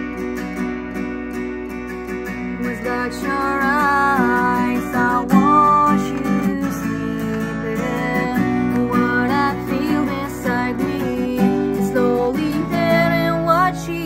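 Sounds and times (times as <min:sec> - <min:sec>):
acoustic guitar strumming: 0:00.0 - 0:14.0
woman singing: 0:02.2 - 0:14.0.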